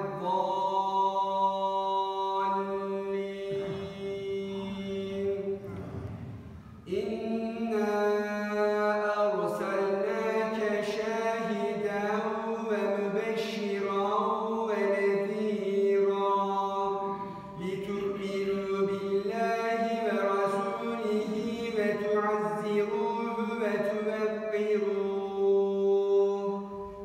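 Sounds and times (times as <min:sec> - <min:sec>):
person chanting recitation: 0:00.0 - 0:27.0.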